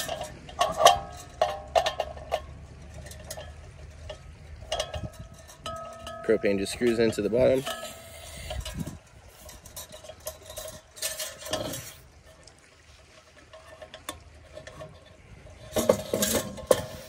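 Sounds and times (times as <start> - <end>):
canister screwed into heater: 0.0 - 12.0, 13.5 - 17.0
metal clatter: 0.0 - 17.0
metal clicks and scrapes: 0.0 - 17.0.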